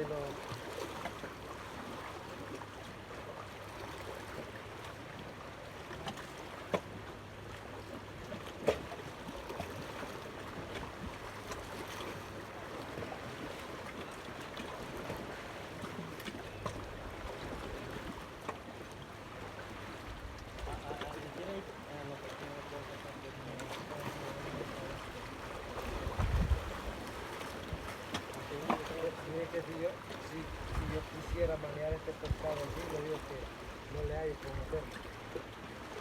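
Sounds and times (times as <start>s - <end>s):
wind: 0.0s - 36.0s.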